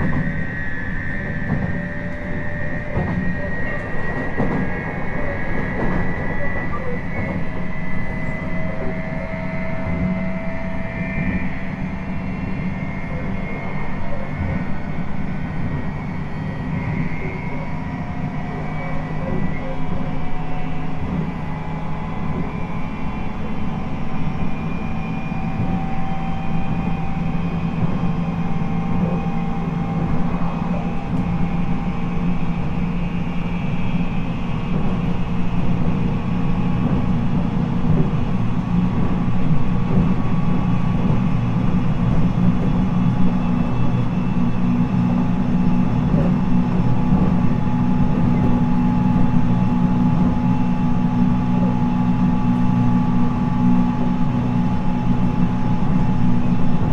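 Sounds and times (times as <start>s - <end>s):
jet-like whine: 0.0s - 56.9s
train wheels rumbling on rail: 0.0s - 56.9s.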